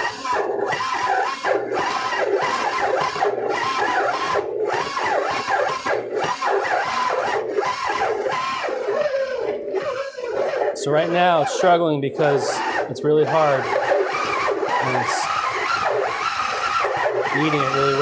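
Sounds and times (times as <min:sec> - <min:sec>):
stand mixer motor whining: 0:00.0 - 0:18.0.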